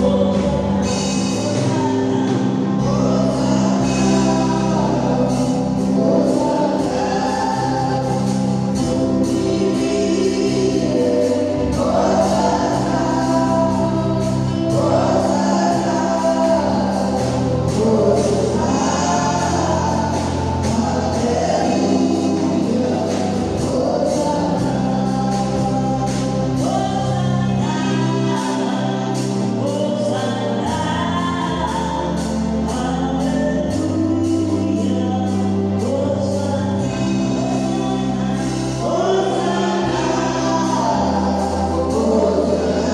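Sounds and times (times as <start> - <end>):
choir singing gospel: 0.0 - 42.9
instrumental accompaniment with beat: 0.0 - 42.9.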